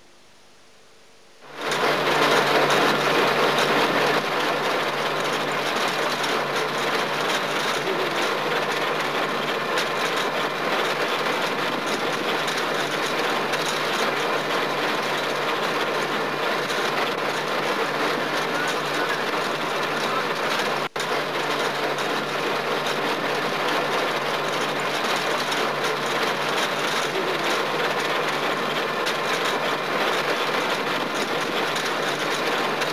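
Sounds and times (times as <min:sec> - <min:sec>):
harvester rollers clattering: 0:01.5 - 0:32.9.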